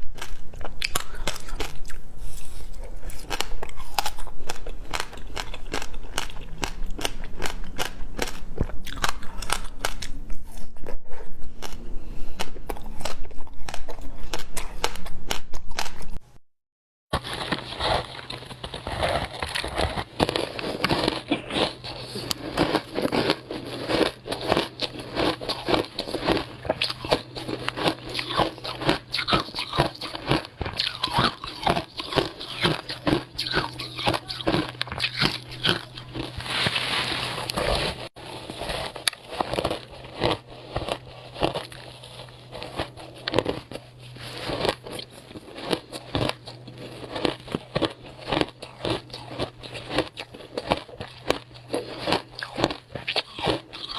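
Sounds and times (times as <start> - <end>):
crunching frozen ice chewing: 0.0 - 16.2, 17.1 - 53.9.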